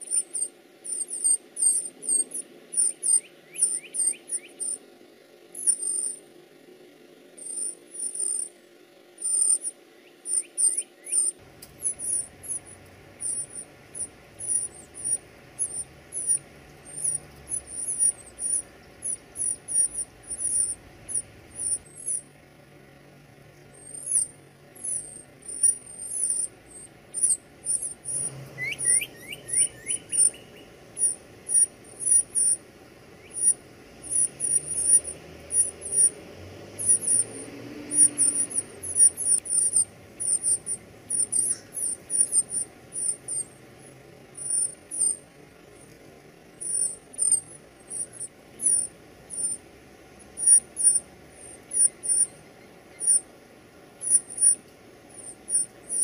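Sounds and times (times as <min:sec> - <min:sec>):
high chirps of nestlings: 0:00.0 - 0:04.9, 0:05.5 - 0:06.2, 0:07.4 - 0:08.6, 0:09.2 - 0:22.4, 0:23.5 - 0:56.0.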